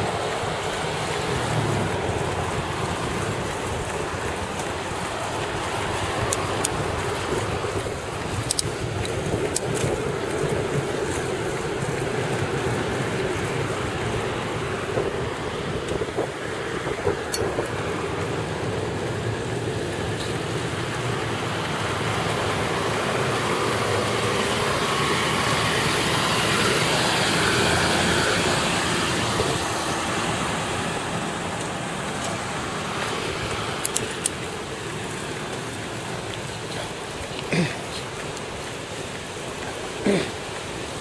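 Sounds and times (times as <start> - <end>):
road noise from moving car: 0.0 - 41.0.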